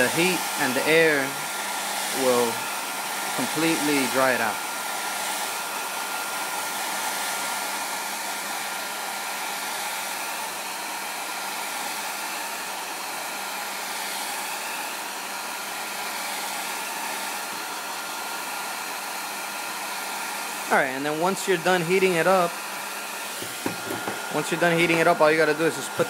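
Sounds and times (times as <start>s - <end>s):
hair dryer blowing with whine: 0.0s - 26.0s.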